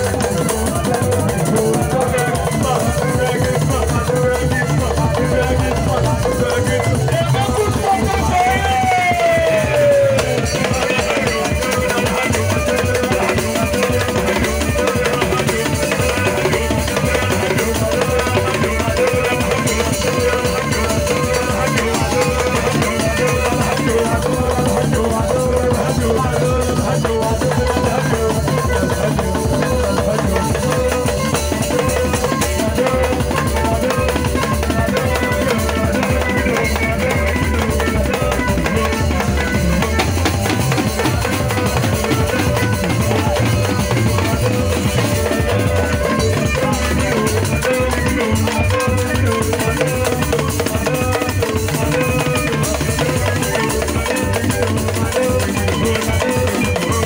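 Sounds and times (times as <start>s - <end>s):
band music with drums: 0.0s - 57.0s.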